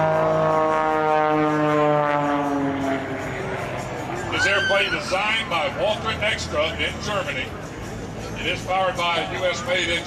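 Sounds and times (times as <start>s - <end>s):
propeller plane droning overhead: 0.0s - 10.0s.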